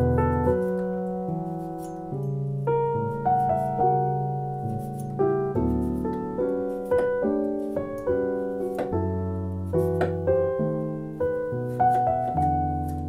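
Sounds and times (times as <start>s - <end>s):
gentle solo piano: 0.0s - 13.0s.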